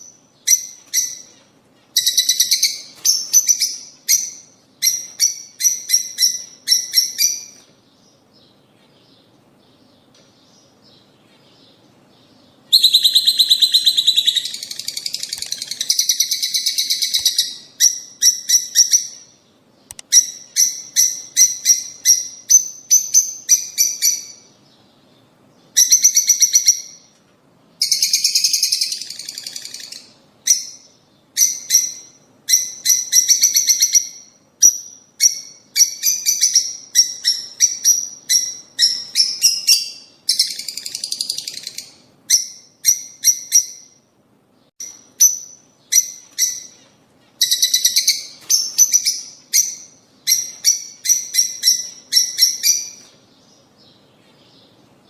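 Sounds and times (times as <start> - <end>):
lovebirds chirping: 0.0 - 27.2, 27.8 - 55.0.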